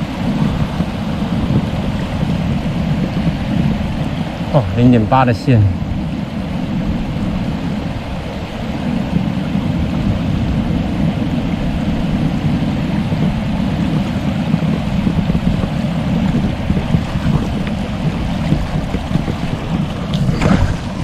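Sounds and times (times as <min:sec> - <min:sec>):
mountain stream flowing: 0:00.0 - 0:21.0.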